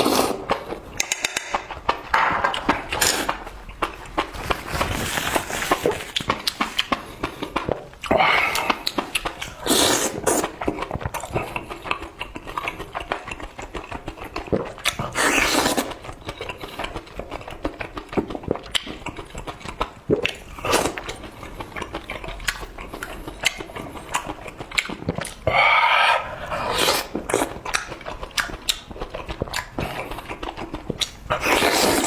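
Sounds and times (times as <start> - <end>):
person chewing and smacking: 0.0 - 32.0.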